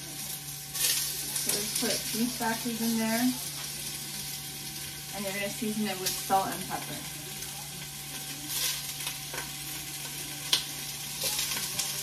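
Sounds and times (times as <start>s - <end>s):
beef sizzling in a pan: 0.0s - 12.0s.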